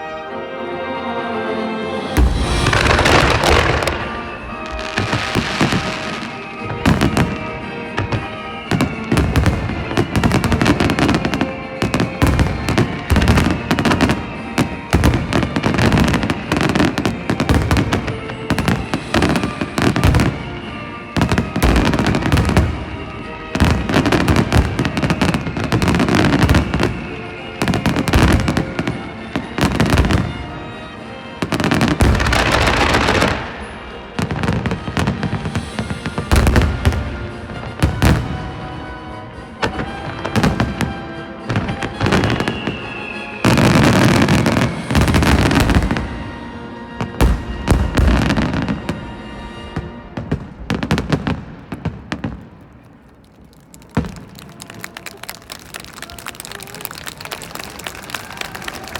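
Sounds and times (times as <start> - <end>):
music playing: 0.0 - 58.9
fireworks booming and crackling: 2.2 - 38.8, 39.6 - 58.9.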